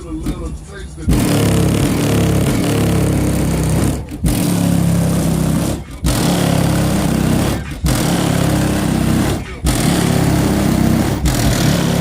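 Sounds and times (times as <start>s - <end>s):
subwoofers playing loud bass notes: 0.0s - 12.0s.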